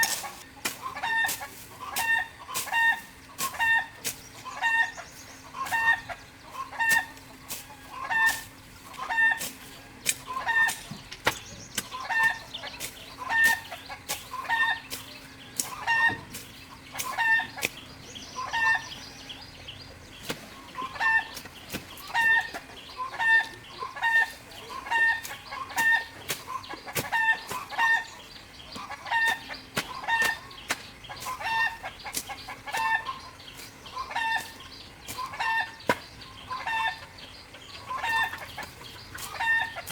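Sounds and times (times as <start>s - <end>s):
chicken clucking: 0.0s - 39.9s.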